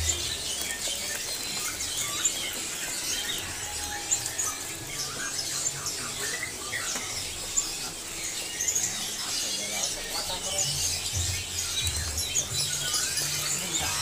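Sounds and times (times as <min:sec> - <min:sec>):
songbirds chirping and squeaking: 0:00.0 - 0:14.0.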